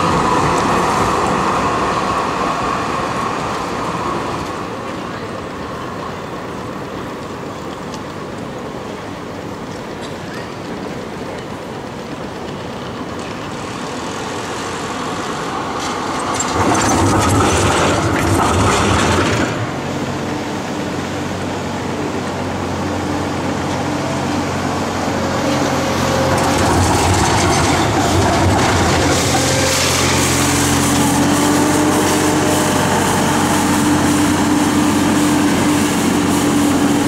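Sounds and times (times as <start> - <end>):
trams rolling and clattering: 0.0 - 37.0.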